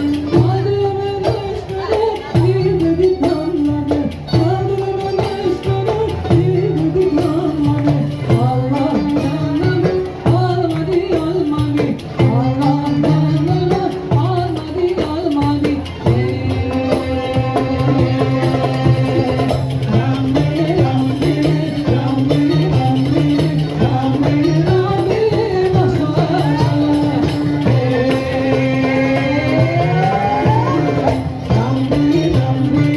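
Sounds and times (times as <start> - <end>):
folk ensemble music with singing: 0.0 - 32.9
hand drum rhythm: 0.0 - 32.9.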